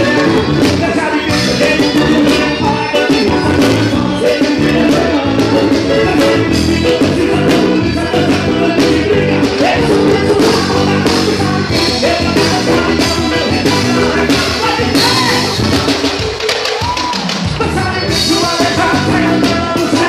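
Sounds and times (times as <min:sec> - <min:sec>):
live band playing praise music: 0:00.0 - 0:20.0.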